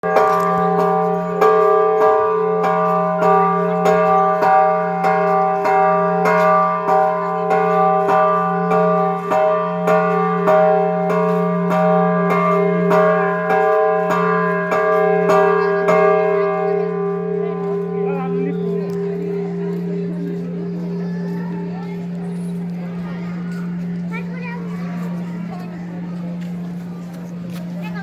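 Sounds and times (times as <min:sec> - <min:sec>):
big bell ringing: 0:00.0 - 0:28.0.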